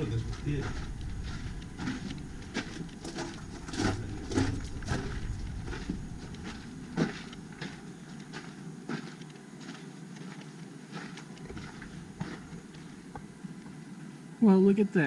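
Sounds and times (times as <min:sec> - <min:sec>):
footsteps on gravel path: 0:00.0 - 0:13.4.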